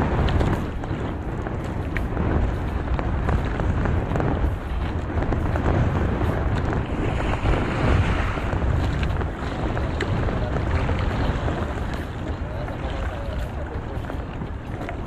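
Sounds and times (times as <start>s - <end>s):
sea noise: 0.0s - 15.0s
wind buffeting microphone: 0.0s - 15.0s.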